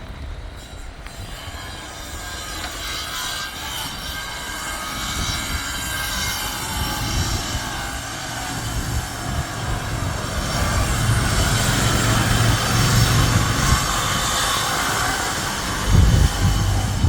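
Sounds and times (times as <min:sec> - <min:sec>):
bicycle road rumble: 0:00.0 - 0:17.0
wind rushing over microphone: 0:00.0 - 0:17.0.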